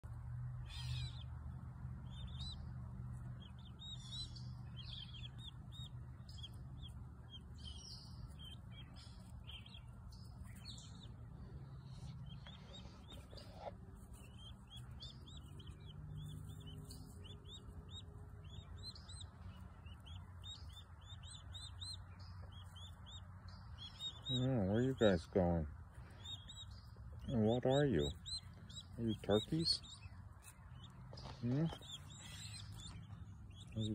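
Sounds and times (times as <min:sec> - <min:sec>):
low steady hum: 0:00.0 - 0:33.9
turkey poults peeping: 0:00.6 - 0:01.4, 0:02.0 - 0:33.9.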